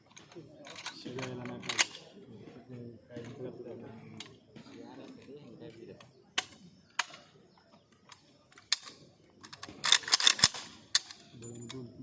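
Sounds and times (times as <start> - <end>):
metal clicks of rifle parts: 0.0 - 2.2, 4.1 - 11.8.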